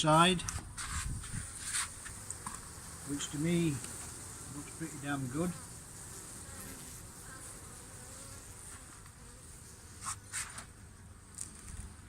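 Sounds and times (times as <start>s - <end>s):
honeybees buzzing: 1.0s - 12.0s.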